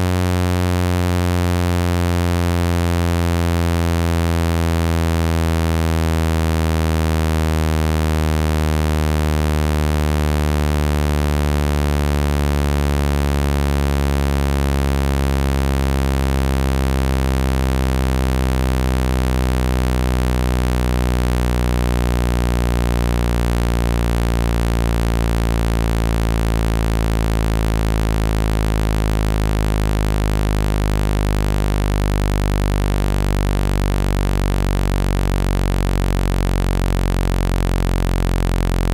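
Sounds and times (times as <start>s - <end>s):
low buzzing tone from phone speaker: 0.0s - 38.9s.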